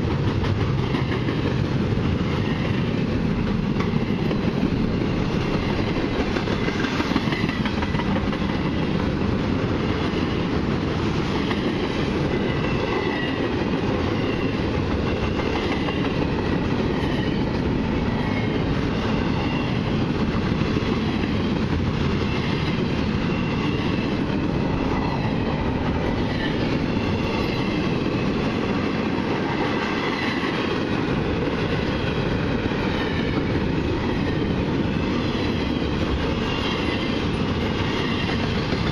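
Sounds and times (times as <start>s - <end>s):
train cars clattering: 0.0s - 38.9s
train wheels rumbling on rail: 0.0s - 38.9s.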